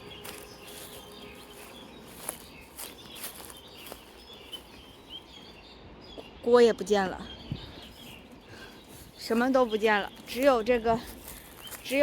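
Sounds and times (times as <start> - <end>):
distant small birds chirping: 0.0 - 12.0.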